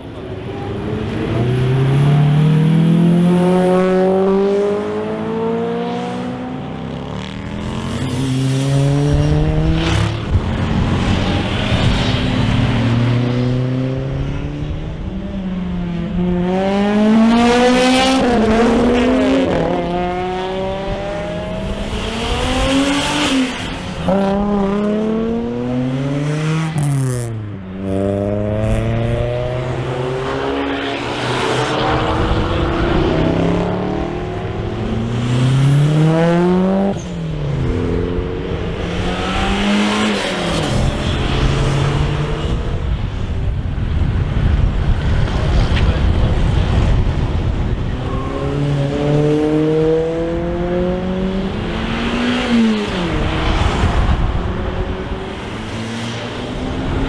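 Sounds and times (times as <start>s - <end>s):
car engines accelerating hard: 0.0s - 57.0s.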